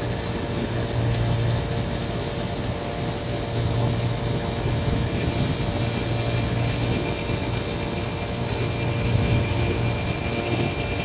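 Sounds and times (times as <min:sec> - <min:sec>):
machine engine noise: 0:00.0 - 0:11.0.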